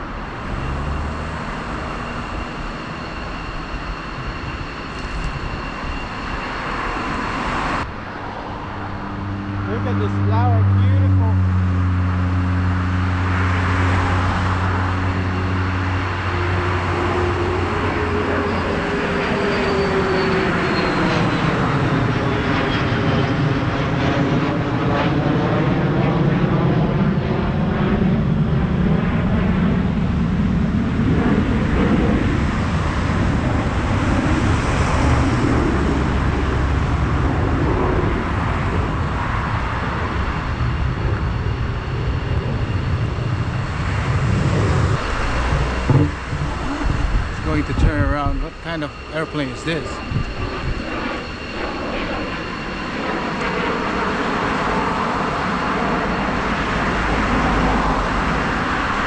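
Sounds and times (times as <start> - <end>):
airplane passing overhead: 0.0 - 59.0.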